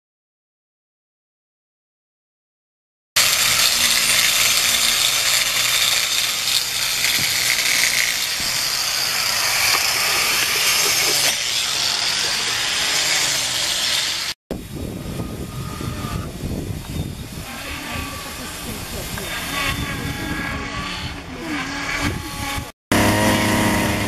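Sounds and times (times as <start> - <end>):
angle grinder on wood: 3.2 - 24.0.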